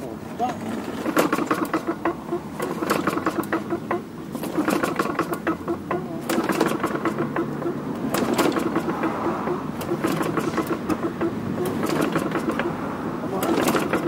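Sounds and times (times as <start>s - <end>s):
mower engine cranking: 0.0s - 14.0s.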